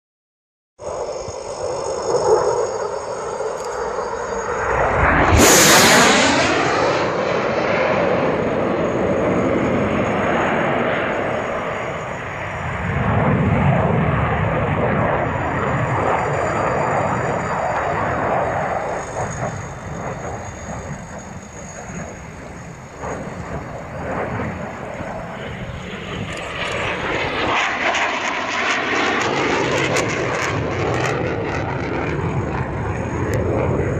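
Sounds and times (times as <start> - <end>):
long rumbling noise: 0.8 - 28.4
jet engine noise: 0.8 - 33.9.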